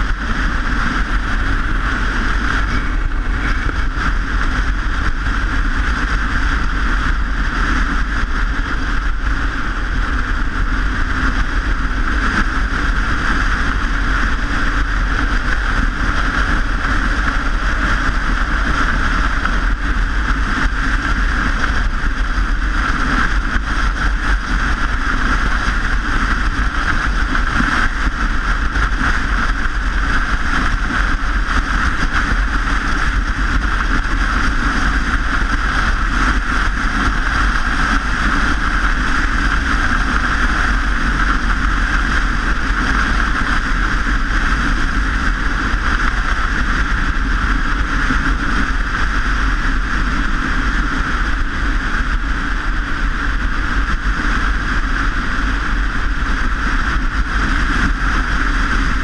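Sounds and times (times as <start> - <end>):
bicycle road noise: 0.0 - 59.0
wind on microphone: 0.0 - 59.0.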